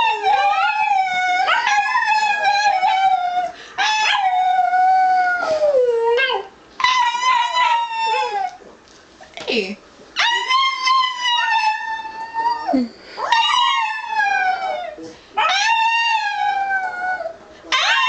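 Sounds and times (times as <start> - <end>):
dog howling: 0.0 - 8.6, 10.2 - 18.0.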